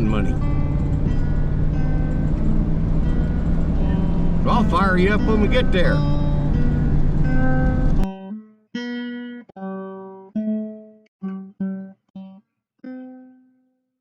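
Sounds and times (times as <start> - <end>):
acoustic guitar plucked notes: 0.0 - 13.7.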